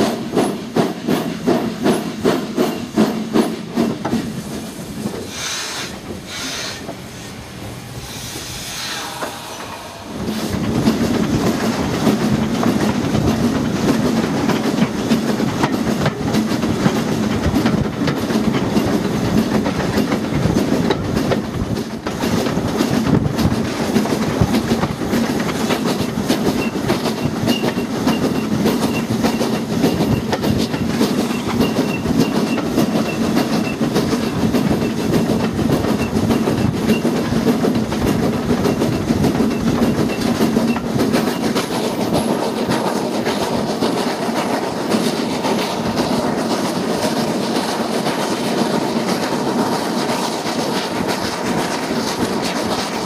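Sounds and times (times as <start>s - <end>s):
wheels clattering on rails: 0.0s - 7.0s, 9.0s - 53.0s
steam locomotive running: 0.0s - 53.0s.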